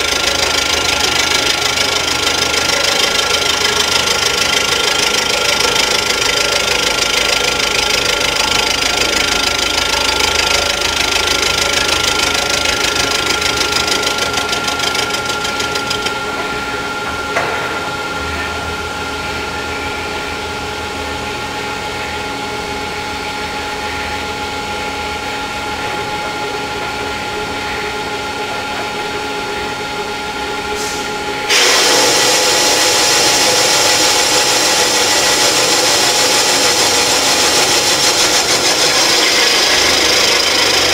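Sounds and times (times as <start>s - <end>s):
mill cutting metal: 0.0s - 20.6s, 25.3s - 40.9s
spindle whine and hum: 0.0s - 40.9s.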